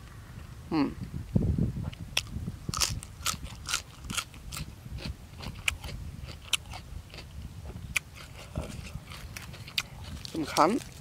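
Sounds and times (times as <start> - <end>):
chewing crunchy raw vegetable: 1.9 - 11.0.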